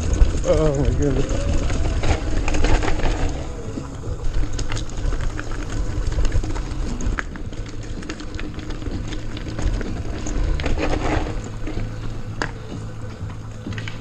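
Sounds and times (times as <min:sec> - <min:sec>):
bike clicks and rattles on rock: 0:00.0 - 0:14.0.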